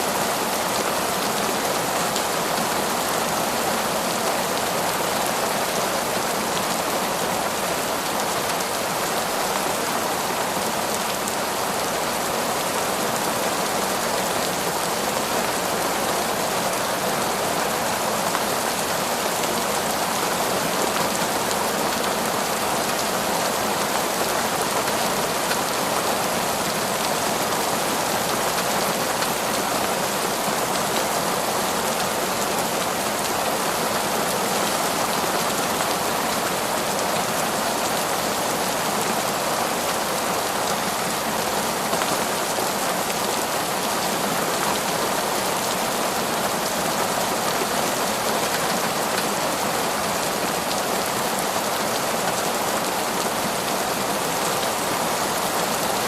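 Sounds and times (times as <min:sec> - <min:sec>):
heavy torrential rain: 0:00.0 - 0:56.0.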